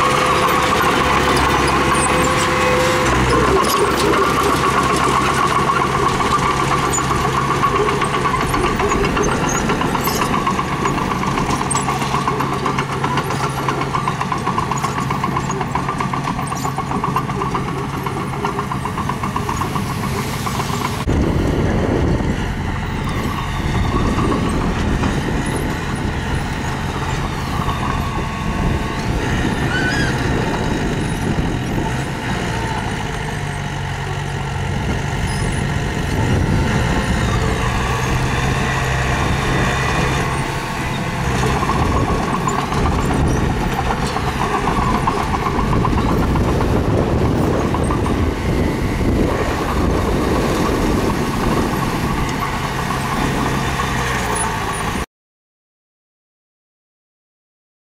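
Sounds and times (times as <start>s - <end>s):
construction machinery engine running: 0.0s - 55.1s.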